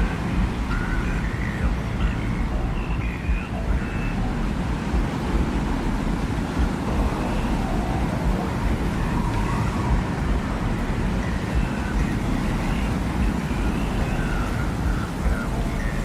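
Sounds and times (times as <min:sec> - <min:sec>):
deep gusty wind rumble: 0:00.0 - 0:16.0
faint wind whistling: 0:00.0 - 0:16.0.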